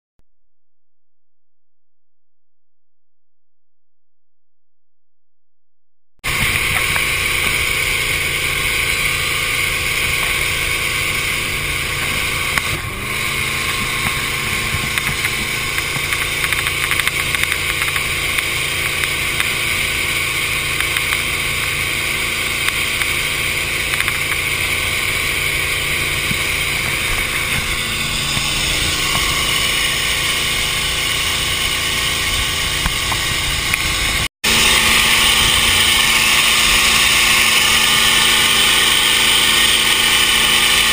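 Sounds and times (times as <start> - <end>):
speedboat engine running: 6.2 - 40.9.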